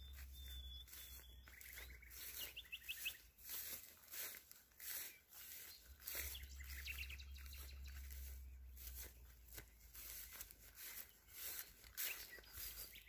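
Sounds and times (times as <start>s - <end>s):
faint bird chirping: 0.0s - 13.0s
rustling in grass: 0.0s - 13.0s.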